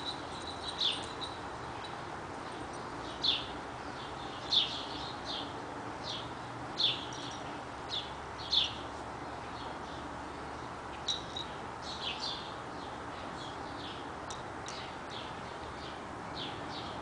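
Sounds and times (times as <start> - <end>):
bird chirping: 0.0 - 14.1
outdoor background hiss: 0.0 - 17.0.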